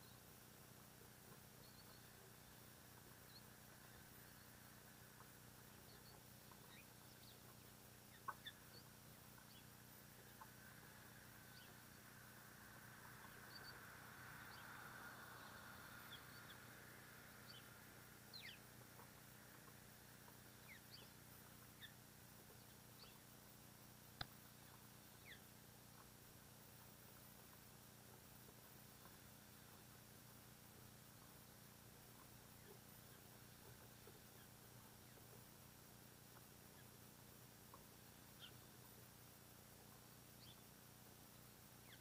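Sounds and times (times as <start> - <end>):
soft noise swell: 0.0 - 35.5.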